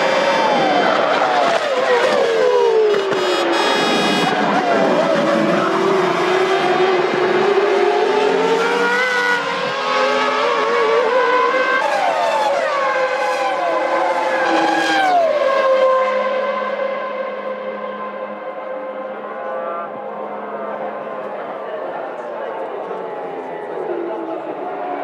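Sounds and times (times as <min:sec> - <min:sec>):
racing car engines at high revs: 0:00.0 - 0:25.0.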